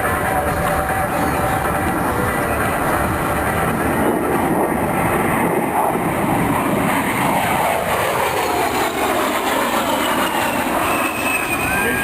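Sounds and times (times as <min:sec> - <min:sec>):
jet engines flying past: 0:00.0 - 0:12.0
jet whine falling in pitch: 0:00.0 - 0:12.0.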